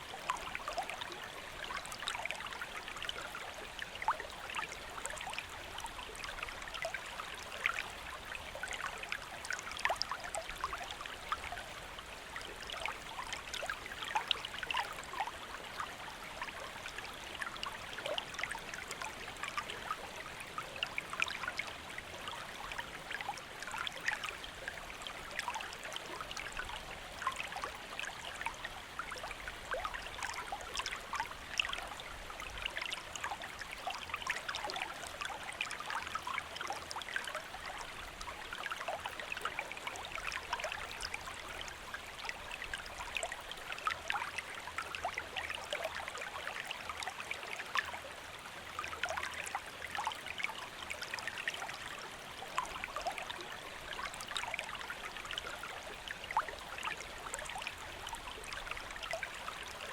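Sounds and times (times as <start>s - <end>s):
stream flowing: 0.0s - 59.9s
water bubbling and trickling: 0.0s - 59.9s.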